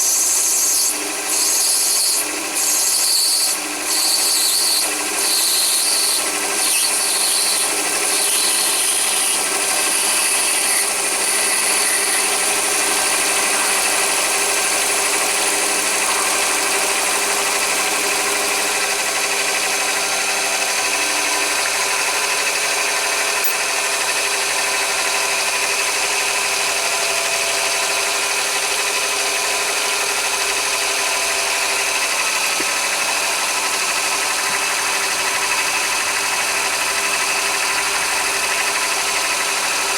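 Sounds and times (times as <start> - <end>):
lathe motor whine: 0.0 - 39.9.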